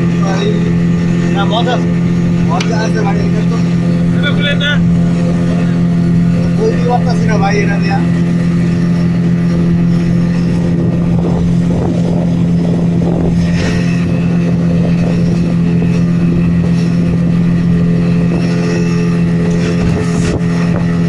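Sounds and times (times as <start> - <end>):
rushing water noise: 0.0 - 21.0
speedboat engine running: 0.0 - 21.0.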